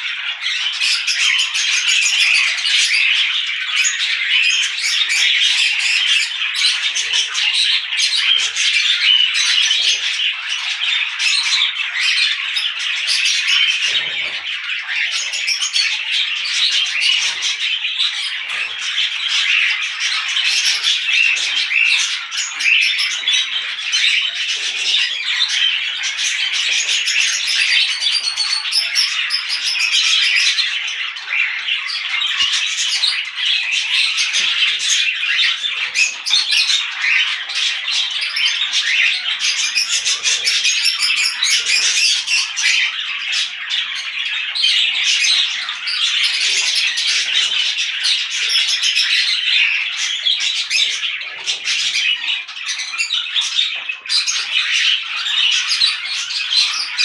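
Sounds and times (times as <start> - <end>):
parrots chattering and squawking: 0.0 - 57.0.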